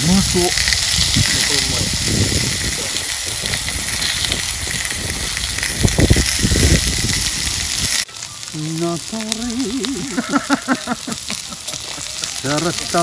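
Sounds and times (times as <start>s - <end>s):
meat sizzling in a hot pan: 0.0s - 13.0s.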